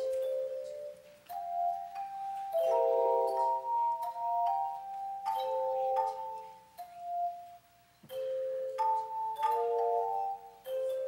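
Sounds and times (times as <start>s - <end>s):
handbells ringing: 0.0s - 7.5s, 8.1s - 11.0s.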